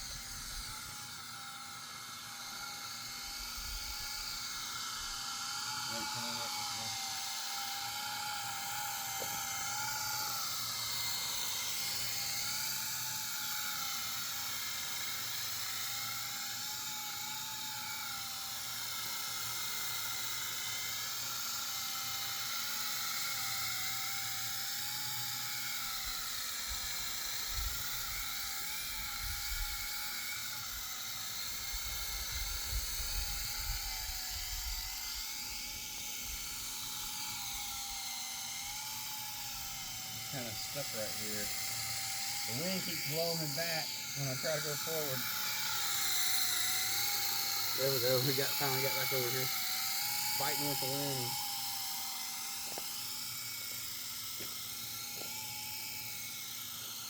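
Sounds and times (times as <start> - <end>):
rc helicopter rotor whining: 0.0 - 57.0.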